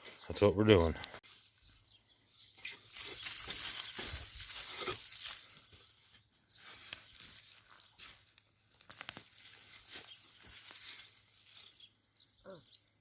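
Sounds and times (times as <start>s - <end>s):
soil and plants being dug: 0.0s - 13.0s.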